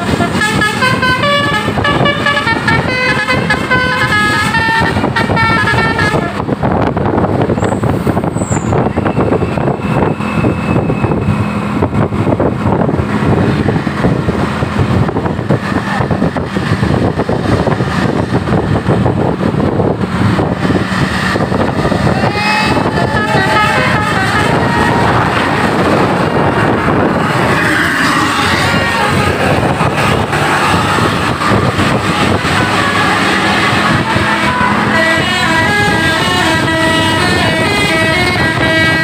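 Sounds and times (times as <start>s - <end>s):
bus engine running: 0.0s - 39.0s
road traffic noise: 0.0s - 39.0s.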